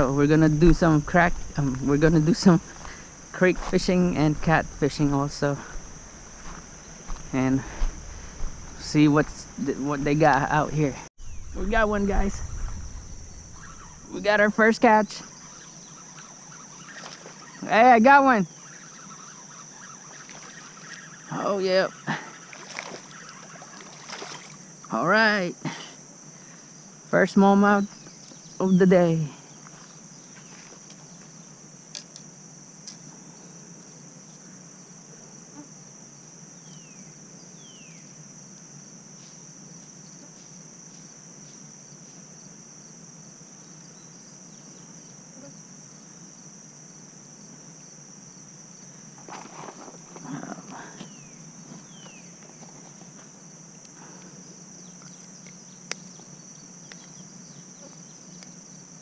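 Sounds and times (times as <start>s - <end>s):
high-pitched insect drone: 0.0s - 59.0s.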